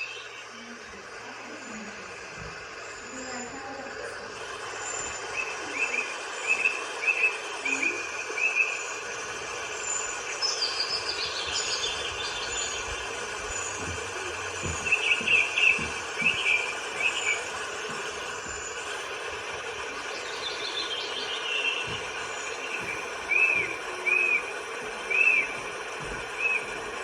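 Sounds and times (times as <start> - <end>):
high bird peep: 0.0 - 25.6
birds chirping: 0.0 - 27.0
steady rushing background noise: 0.0 - 27.0.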